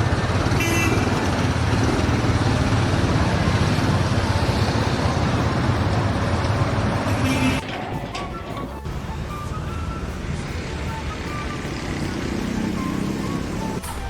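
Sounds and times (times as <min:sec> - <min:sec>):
loud vehicle rumble: 0:00.0 - 0:14.0.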